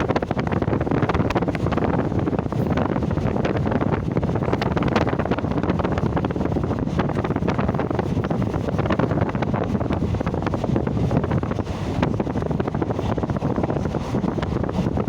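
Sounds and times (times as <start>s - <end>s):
train carriage rattling and clicking: 0.0s - 15.0s
wind rushing on microphone: 0.0s - 15.0s.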